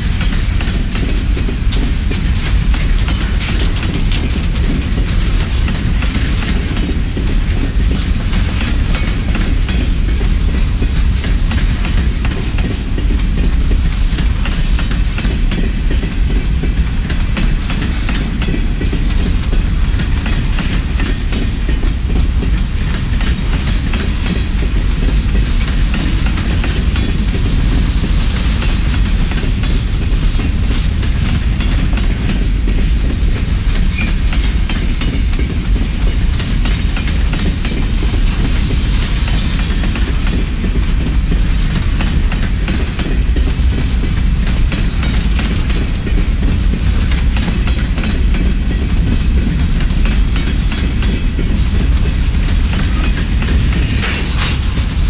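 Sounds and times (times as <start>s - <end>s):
freight train rumble: 0.0s - 55.0s
train wheels clicking over rail joints: 0.0s - 55.0s.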